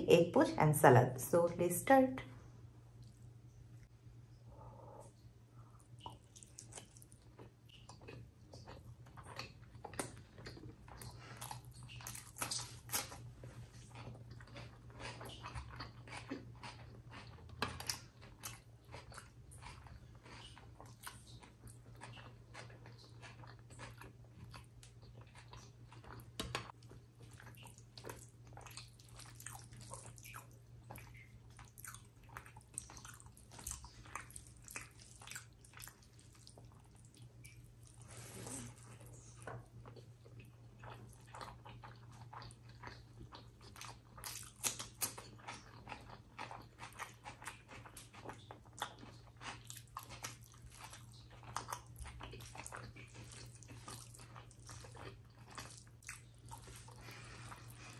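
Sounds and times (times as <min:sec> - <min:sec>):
faint low hum: 0:00.0 - 0:57.9
wet chewing: 0:05.8 - 0:38.0, 0:38.6 - 0:57.9.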